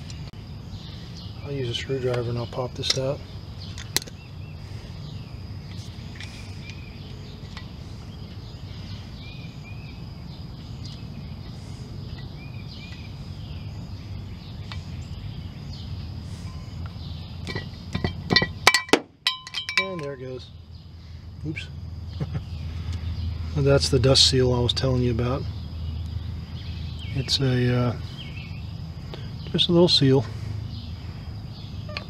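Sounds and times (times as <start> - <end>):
low background rumble: 0.0 - 32.0.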